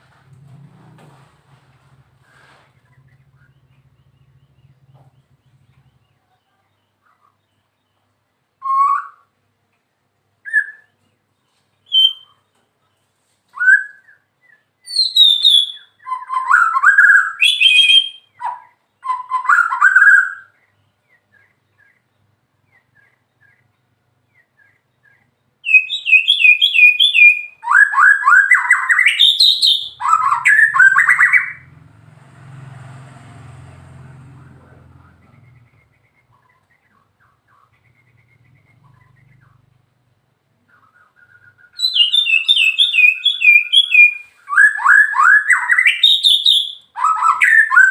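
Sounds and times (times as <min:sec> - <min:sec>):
bird singing: 0:02.8 - 0:09.3, 0:10.4 - 0:32.0, 0:34.4 - 0:47.9.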